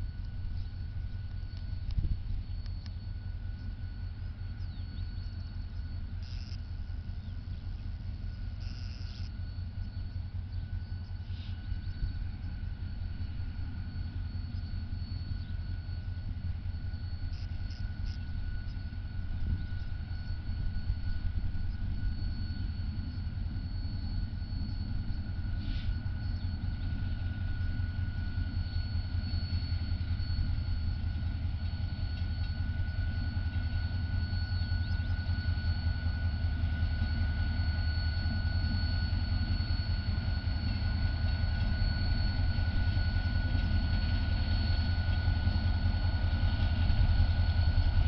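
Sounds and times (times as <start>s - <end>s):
diesel locomotive engine rumbling: 0.0s - 48.0s.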